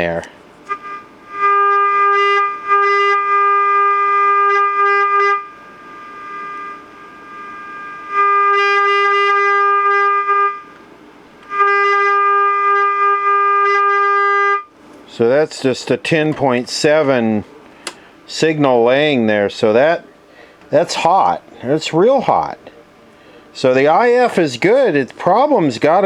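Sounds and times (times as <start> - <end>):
buzzy test tone from speaker: 0.0 - 17.6, 18.3 - 26.0.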